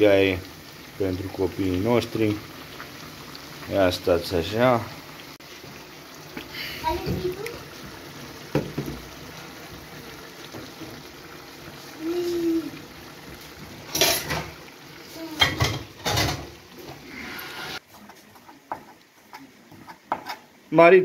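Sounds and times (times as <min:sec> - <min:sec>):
pan simmering and sizzling: 0:00.0 - 0:21.0.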